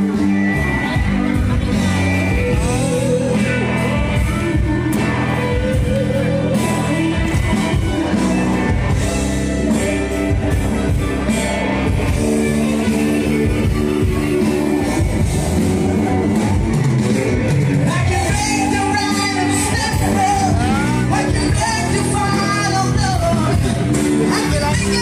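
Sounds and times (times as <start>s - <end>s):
guitar: 0.0s - 25.0s
live rock band: 0.0s - 25.0s
person singing: 0.0s - 25.0s.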